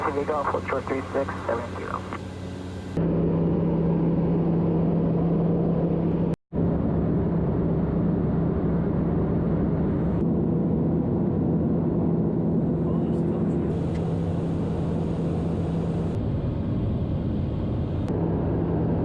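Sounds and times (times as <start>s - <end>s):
airliner engines droning in cabin: 0.0s - 19.0s.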